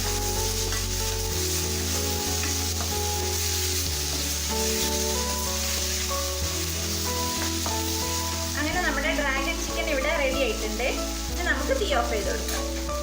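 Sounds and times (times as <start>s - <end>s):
food sizzling in a pan: 0.0s - 13.0s
soft background music: 0.0s - 13.0s.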